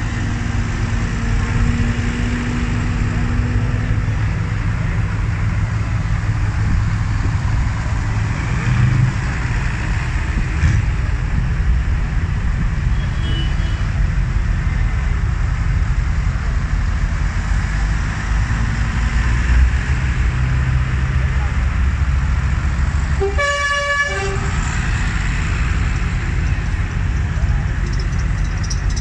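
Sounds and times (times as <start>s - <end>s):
tractors driving past: 0.0s - 12.9s, 13.6s - 29.0s.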